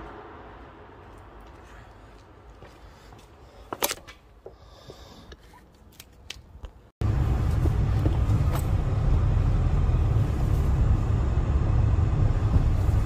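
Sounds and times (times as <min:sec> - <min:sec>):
car engine and tyre rumble: 0:00.0 - 0:03.6, 0:06.0 - 0:13.0.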